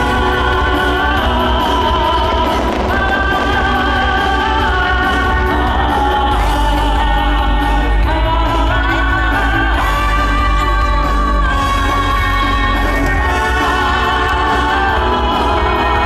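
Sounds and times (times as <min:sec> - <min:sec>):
show music with singing: 0:00.0 - 0:16.0.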